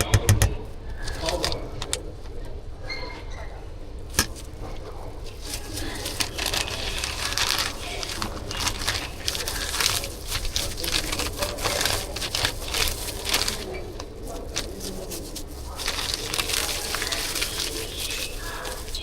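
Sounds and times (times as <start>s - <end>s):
food packaging crinkling: 1.0s - 1.8s, 4.1s - 19.0s.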